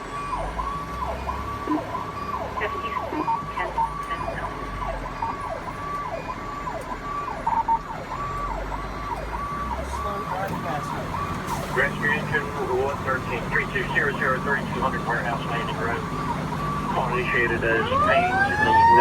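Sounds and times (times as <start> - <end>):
fire engine siren yelping: 0.0 - 19.0
truck engine rumble: 0.0 - 19.0.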